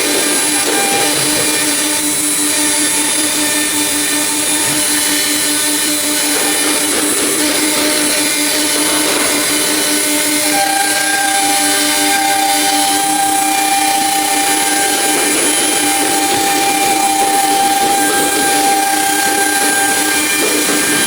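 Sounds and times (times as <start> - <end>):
machine whine over hiss: 0.0 - 21.0.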